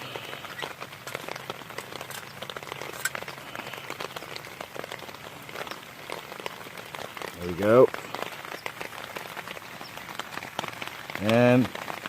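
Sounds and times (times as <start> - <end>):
rain falling: 0.0 - 12.0
raindrops ticking close by: 0.0 - 12.0.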